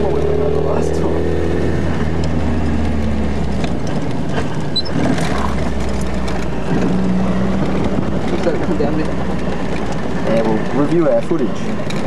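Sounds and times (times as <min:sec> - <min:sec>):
car engine running: 0:00.0 - 0:12.0
car body rattling: 0:01.7 - 0:12.0.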